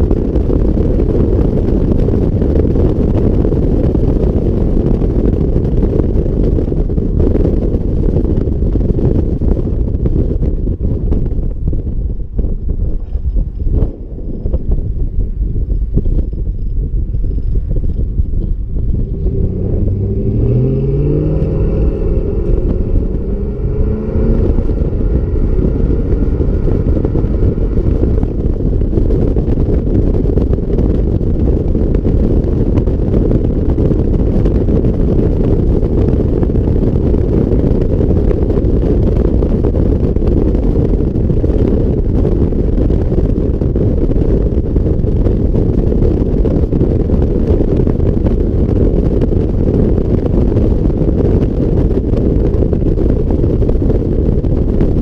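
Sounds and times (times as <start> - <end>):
truck exhaust accelerating: 0.0 - 55.0
wind buffeting microphone: 0.0 - 55.0.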